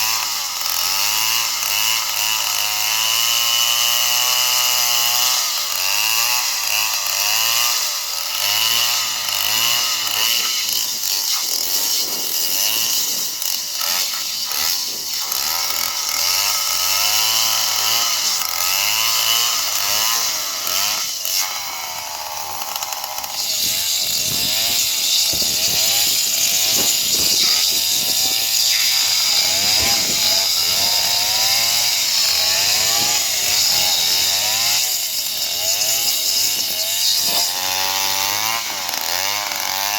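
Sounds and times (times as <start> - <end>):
chainsaw cutting into trunk: 0.0 - 39.9.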